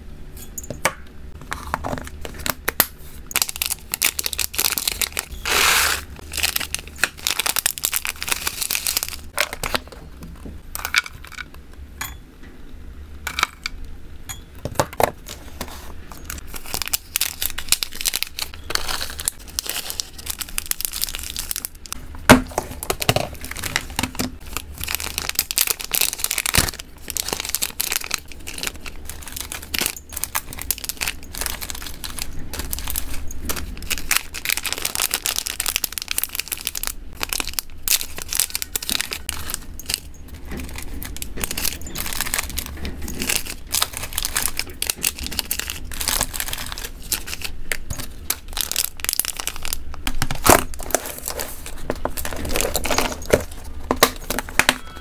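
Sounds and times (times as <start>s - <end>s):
plastic packets crinkling: 1.4s - 10.2s, 16.2s - 54.9s.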